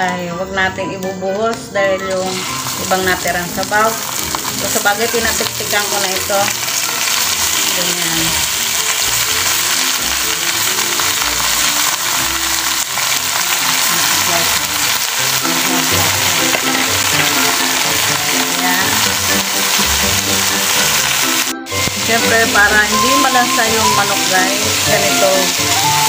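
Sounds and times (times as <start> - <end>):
chicken sizzling in hot oil: 2.2 - 26.0.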